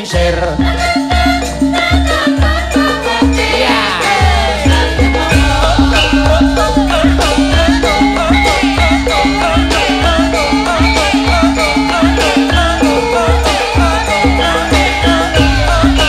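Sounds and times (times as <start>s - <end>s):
repeating metallophone note: 0.0s - 16.0s
steady drum beat: 0.0s - 16.0s
woman singing: 0.0s - 16.0s.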